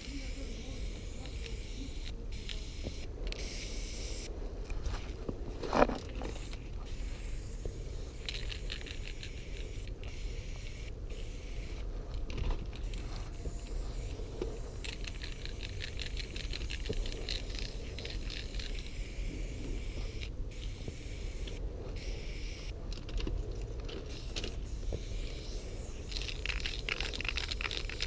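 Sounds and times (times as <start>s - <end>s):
spray paint can hissing: 0.0s - 4.3s, 6.2s - 11.8s, 12.8s - 22.8s, 24.1s - 28.0s.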